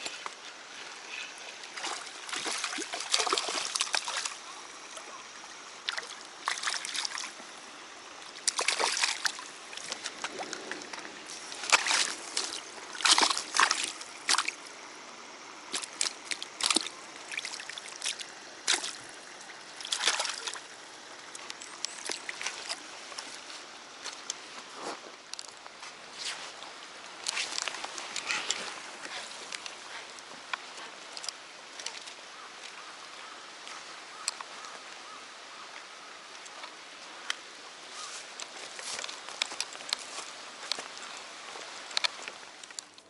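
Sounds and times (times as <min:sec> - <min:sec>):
faint water trickle: 0:00.0 - 0:43.0
water splashing and sloshing: 0:00.0 - 0:43.0.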